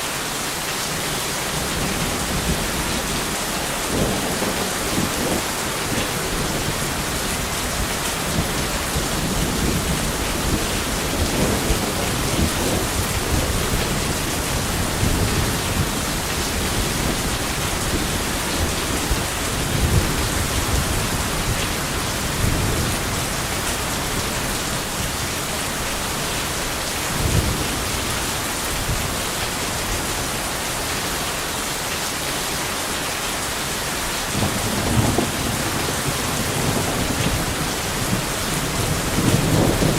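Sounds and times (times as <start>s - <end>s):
heavy rain: 0.0s - 39.9s
thunder rumbling: 0.9s - 30.2s, 33.4s - 39.9s.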